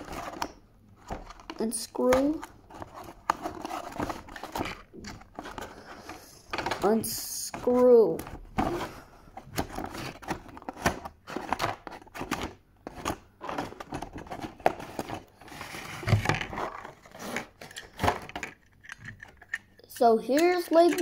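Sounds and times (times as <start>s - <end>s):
cardboard and paper rustling: 0.0s - 19.5s
plastic fasteners clicking and scraping: 0.0s - 21.0s.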